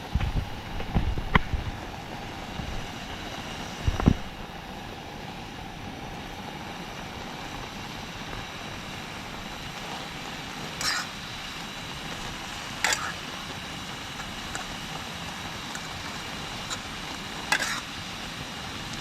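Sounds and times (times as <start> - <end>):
heavy rain: 0.0 - 19.0
hissing rustle: 0.1 - 19.0.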